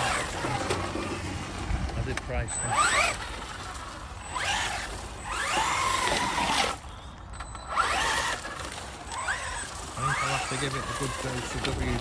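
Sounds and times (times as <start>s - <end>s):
electric toy car motor whining: 0.0s - 12.0s.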